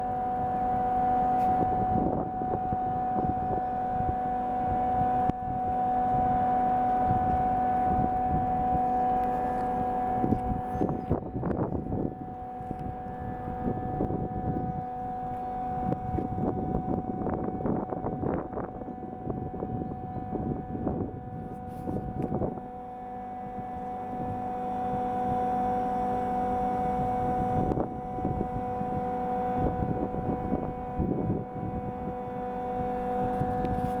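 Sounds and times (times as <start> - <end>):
chiller compressors humming and whining: 0.0 - 34.0.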